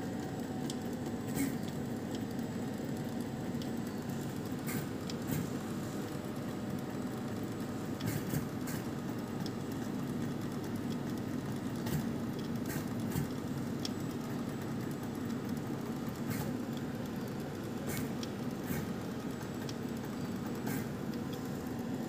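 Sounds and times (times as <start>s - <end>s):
lab equipment humming: 0.0s - 22.0s.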